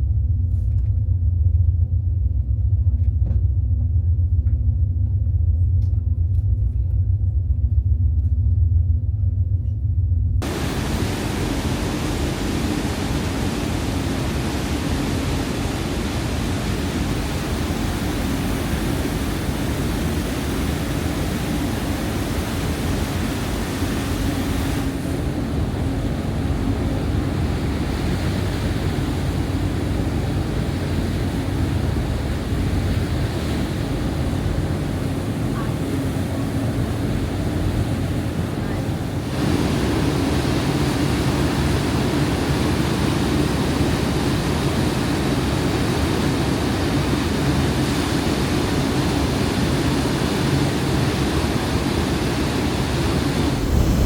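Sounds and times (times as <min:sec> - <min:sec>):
ferry engines droning: 0:00.0 - 0:43.1, 0:52.7 - 0:54.0
rushing wind and water: 0:10.4 - 0:54.0.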